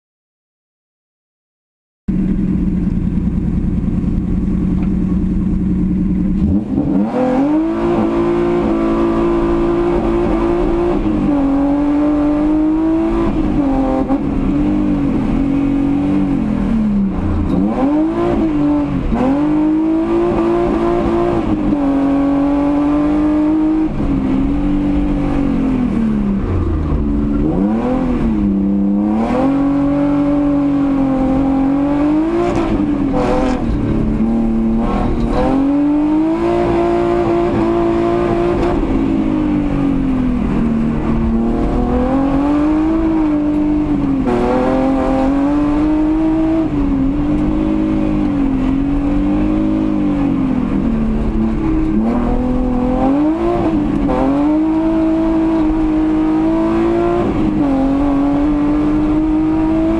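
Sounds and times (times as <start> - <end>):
car engine revving: 2.1 - 59.9.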